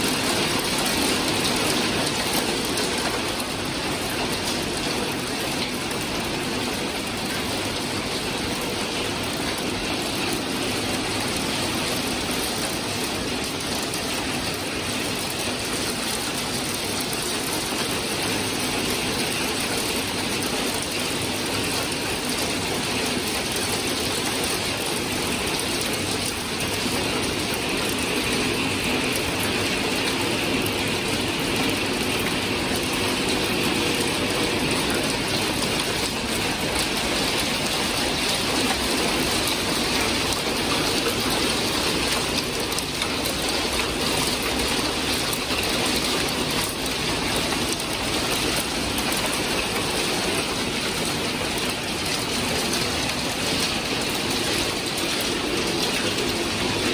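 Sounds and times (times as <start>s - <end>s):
hail and rain pelting deck: 0.0s - 56.9s.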